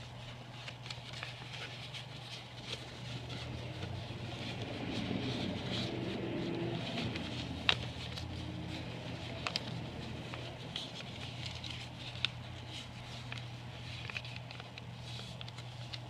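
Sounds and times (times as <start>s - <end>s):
paper rustling and crackling: 0.0s - 16.0s
steady low hum: 0.0s - 16.0s.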